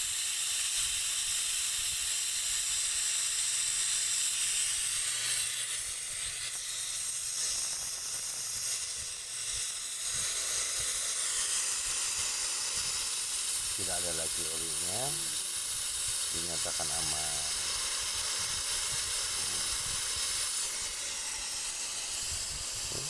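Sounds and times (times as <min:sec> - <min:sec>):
pressurised gas hissing from tubing: 0:00.0 - 0:23.0.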